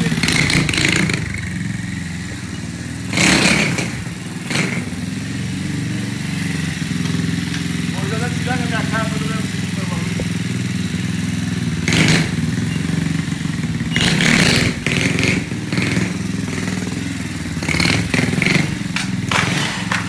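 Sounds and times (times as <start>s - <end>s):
moped engine revving: 0.0s - 20.0s.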